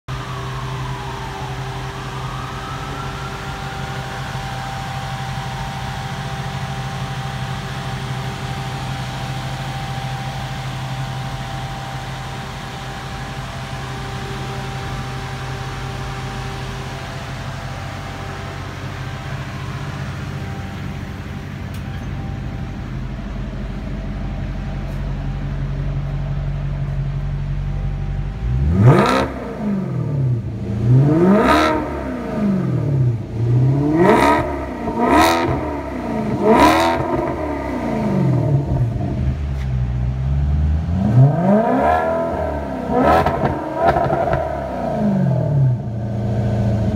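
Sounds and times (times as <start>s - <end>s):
car engine idling: 0.0s - 46.9s
car engine revving: 0.1s - 46.9s.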